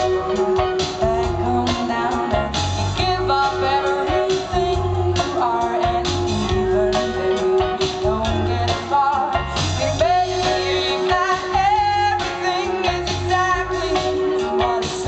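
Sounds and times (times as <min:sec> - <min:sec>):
band playing a steady beat: 0:00.0 - 0:15.0
woman singing with vibrato: 0:00.0 - 0:15.0.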